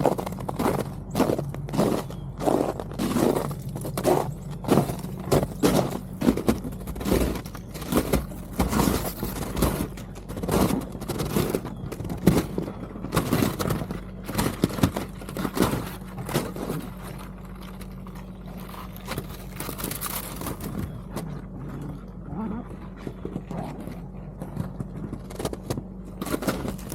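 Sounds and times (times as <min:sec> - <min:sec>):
ice crunching and scraping: 0:00.0 - 0:26.9
tractor engine running: 0:00.0 - 0:26.9.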